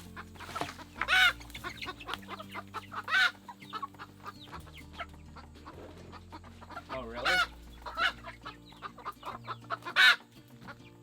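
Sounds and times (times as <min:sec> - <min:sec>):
young chickens clucking: 0:00.0 - 0:11.0.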